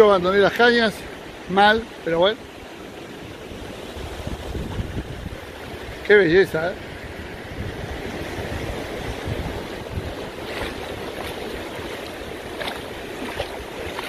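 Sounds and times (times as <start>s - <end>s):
small surf washing onto beach: 0.0s - 14.0s
wind rumbling on microphone: 2.6s - 14.0s.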